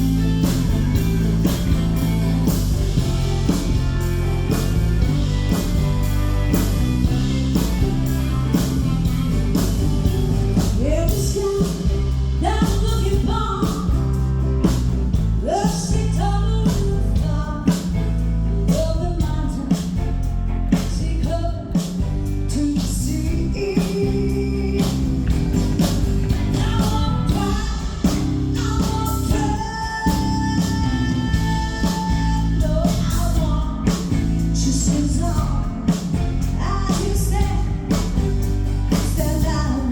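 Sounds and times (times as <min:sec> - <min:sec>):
live band with singer: 0:00.0 - 0:39.9.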